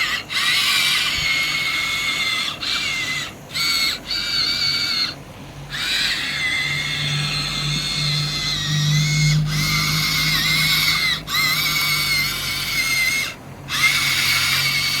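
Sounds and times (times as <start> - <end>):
electric motors whining: 0.0 - 15.0
steady low hum: 0.0 - 15.0.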